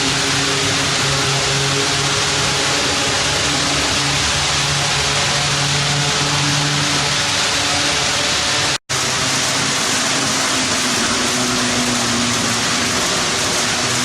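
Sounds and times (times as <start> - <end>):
model train hiss: 0.0 - 14.0.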